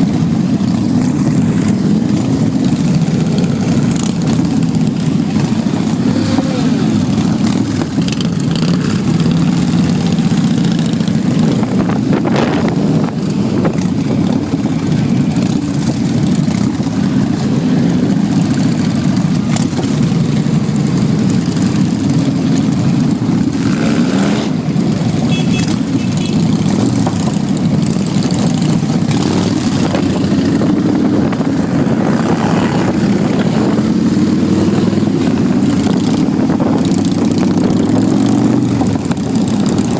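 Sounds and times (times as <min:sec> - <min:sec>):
motorcycle engines droning: 0:00.0 - 0:39.9.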